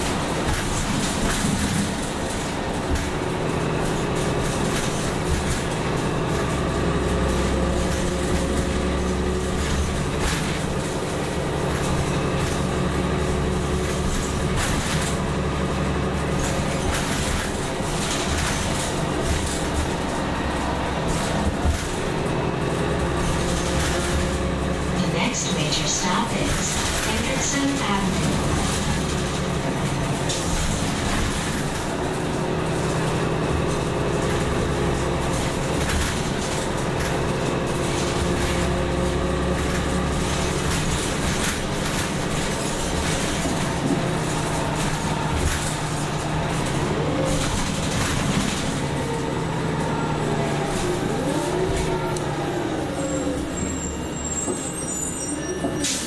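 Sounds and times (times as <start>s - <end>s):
bus engine drone from inside: 0.0s - 56.0s.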